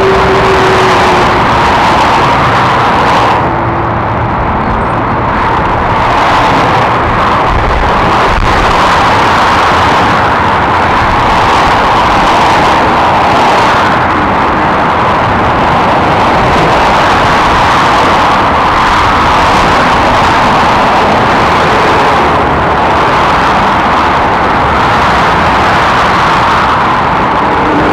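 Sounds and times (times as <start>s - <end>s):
motorway traffic passing at speed: 0.0s - 27.9s.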